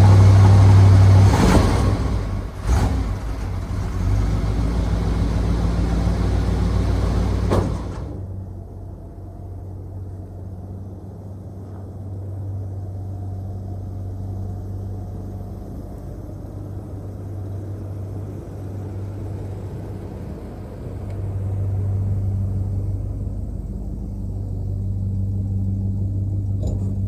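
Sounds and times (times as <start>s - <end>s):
pickup engine idling: 0.0s - 26.6s.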